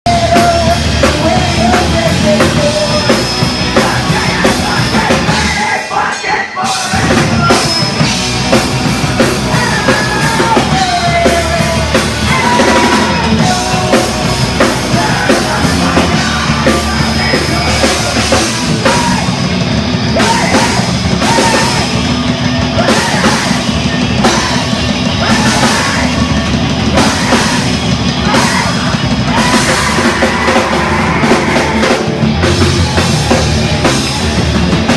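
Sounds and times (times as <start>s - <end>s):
loud rock music with drums: 0.0s - 34.9s.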